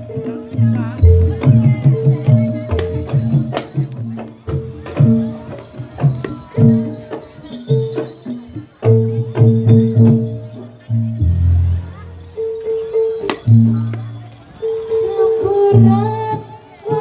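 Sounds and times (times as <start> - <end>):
sharp drum strokes: 0.0 - 14.1
ringing metal gong-chime notes: 0.0 - 17.0.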